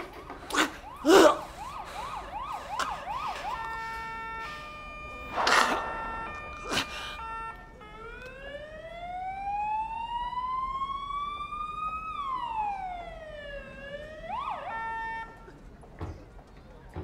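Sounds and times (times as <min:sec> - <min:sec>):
siren-like wail: 0:00.0 - 0:15.4.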